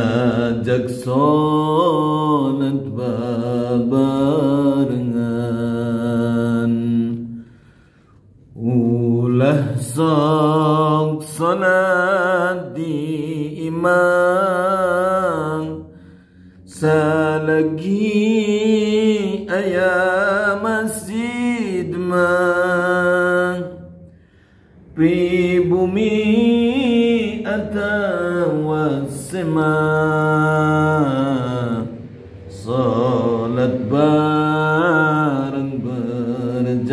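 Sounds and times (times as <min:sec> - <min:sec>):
man singing unaccompanied chant: 0:00.0 - 0:07.4, 0:08.5 - 0:24.1, 0:24.9 - 0:36.9.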